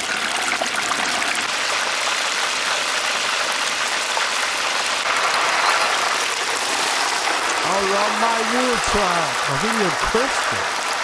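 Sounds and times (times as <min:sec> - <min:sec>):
oil sizzling with crackles: 0:00.0 - 0:11.0.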